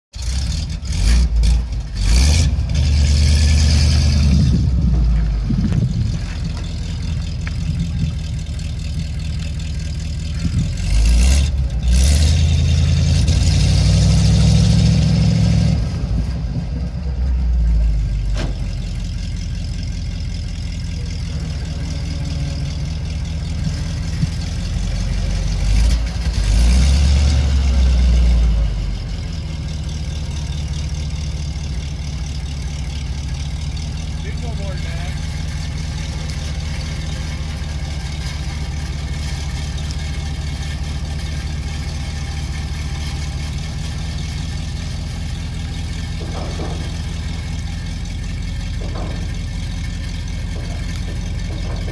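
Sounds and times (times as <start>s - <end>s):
truck engine idling and revving: 0.1s - 51.9s.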